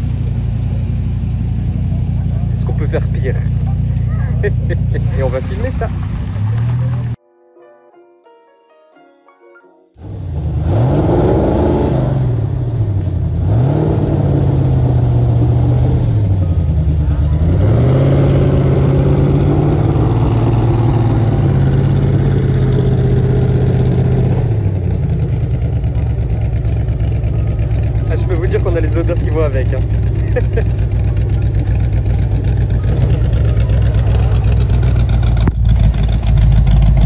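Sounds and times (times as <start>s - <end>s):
car engine revving: 0.0s - 7.2s, 10.0s - 37.0s.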